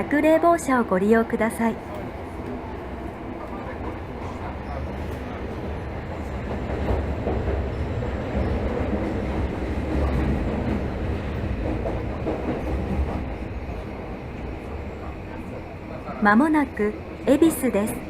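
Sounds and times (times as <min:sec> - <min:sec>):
subway wheels rumbling on rail: 0:00.0 - 0:18.0.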